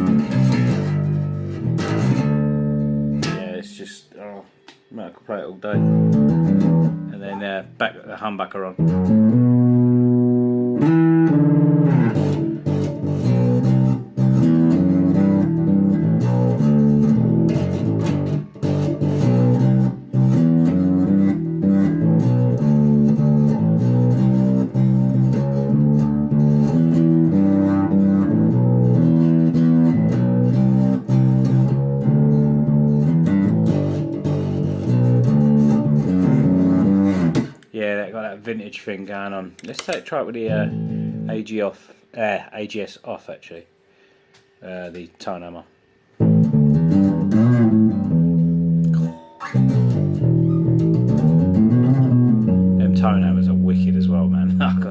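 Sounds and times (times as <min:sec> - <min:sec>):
plucked electric bass line: 0:00.0 - 0:03.6, 0:05.7 - 0:07.7, 0:08.6 - 0:37.6, 0:39.6 - 0:41.5, 0:46.2 - 0:54.9.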